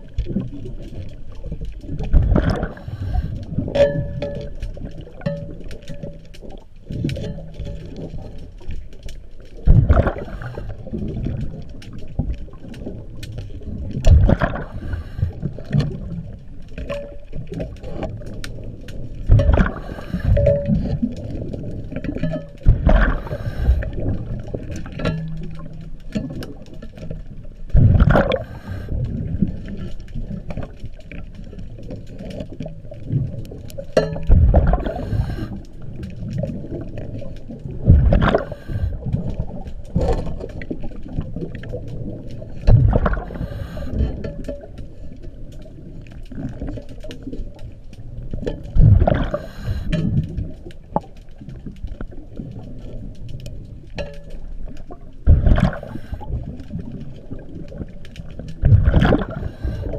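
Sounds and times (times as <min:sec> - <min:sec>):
exhaled bubbles underwater: 0:00.0 - 0:59.9
low underwater rumble: 0:00.0 - 0:59.9.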